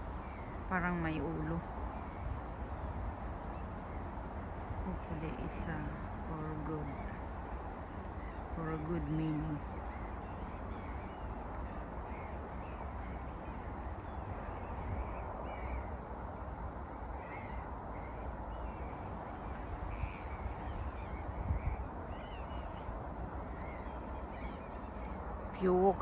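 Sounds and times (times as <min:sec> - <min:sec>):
birds calling: 0:00.0 - 0:26.0
wind rumble on microphone: 0:00.0 - 0:26.0.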